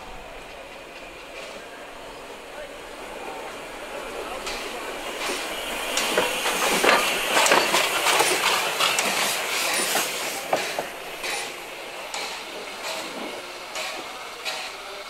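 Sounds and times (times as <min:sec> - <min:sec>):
train wheels clattering over joints: 0:00.0 - 0:15.0.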